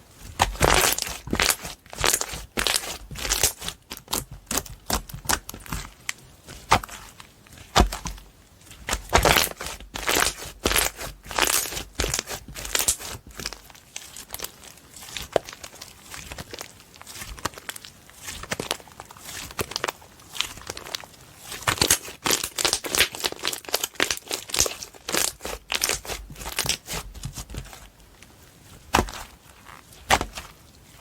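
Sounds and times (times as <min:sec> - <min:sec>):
slime squishing: 0:00.2 - 0:31.0.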